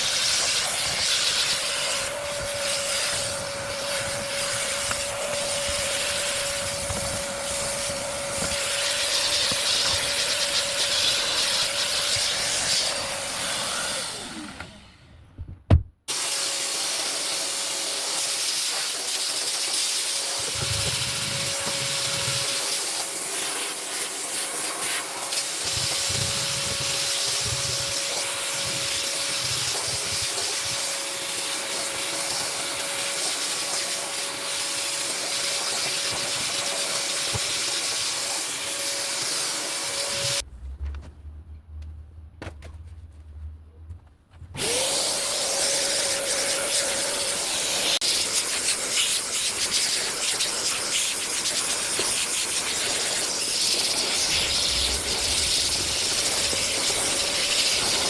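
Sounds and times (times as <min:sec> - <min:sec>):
car vacuum cleaner running: 0:00.0 - 0:15.3, 0:16.1 - 0:40.5, 0:44.6 - 0:58.0.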